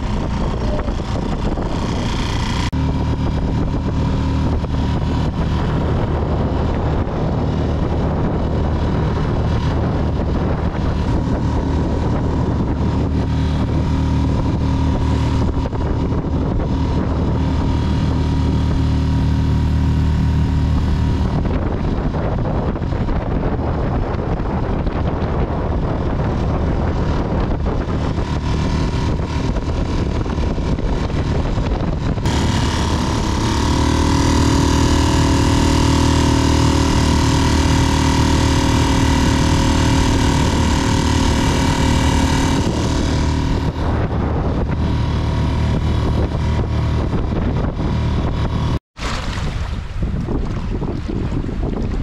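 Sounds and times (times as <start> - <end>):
outboard motor running: 0.0 - 52.0
water rushing: 0.0 - 52.0
wind: 0.0 - 52.0.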